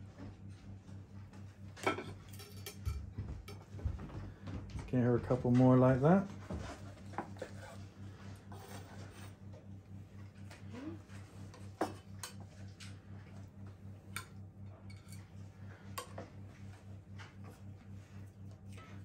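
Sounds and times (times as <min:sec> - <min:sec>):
low pulsing hum: 0:00.0 - 0:19.0.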